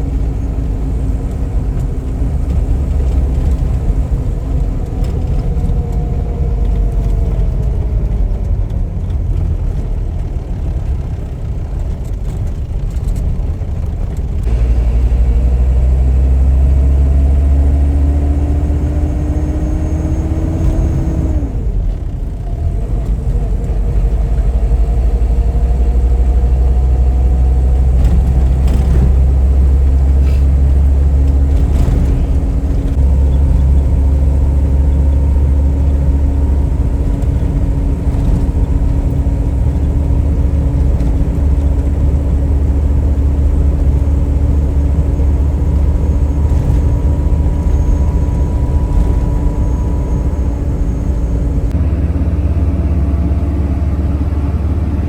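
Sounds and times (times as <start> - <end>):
low road rumble: 0.0 - 55.0
vehicle engine cruising: 0.0 - 55.0.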